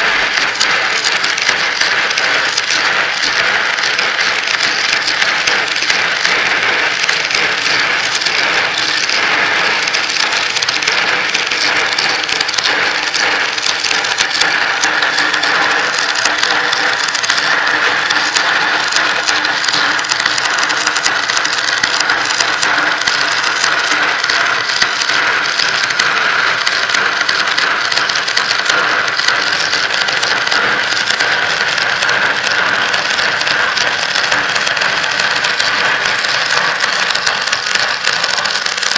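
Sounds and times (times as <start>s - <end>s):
glass marbles rolling and clicking: 0.0s - 38.9s.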